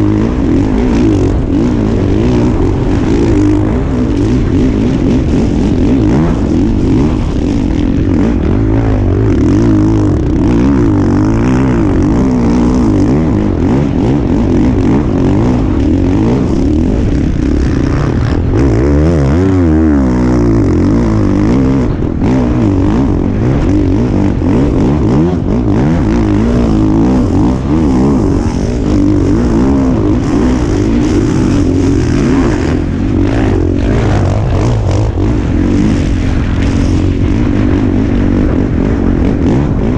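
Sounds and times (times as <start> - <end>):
dirt bike engine revving: 0.0 - 39.9
rushing noise: 0.0 - 39.9.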